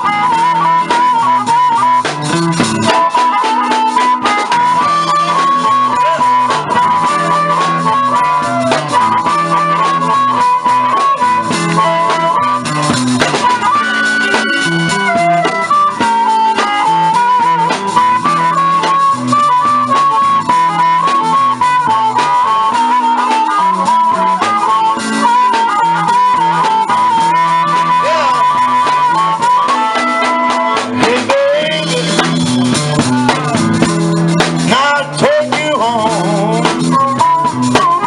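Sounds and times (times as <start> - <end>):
guitar accompaniment: 0.0 - 38.0
harmonica bending notes: 0.0 - 38.0.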